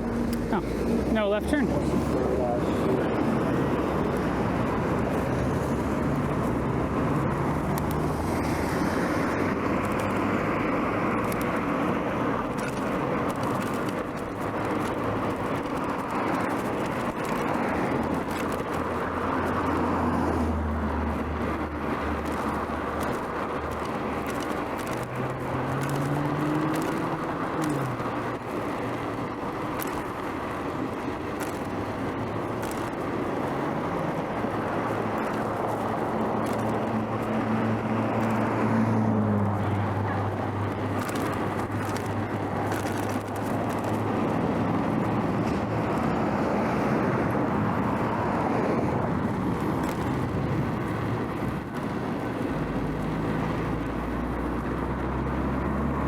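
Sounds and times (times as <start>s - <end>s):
cars driving past: 0.0s - 56.0s
wind noise: 0.0s - 56.0s.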